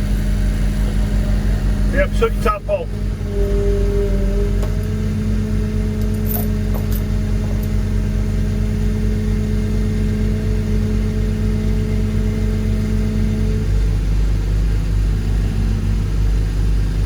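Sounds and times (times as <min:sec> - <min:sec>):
heavy machine engine rumbling: 0:00.0 - 0:17.0
steady whine: 0:00.0 - 0:17.0.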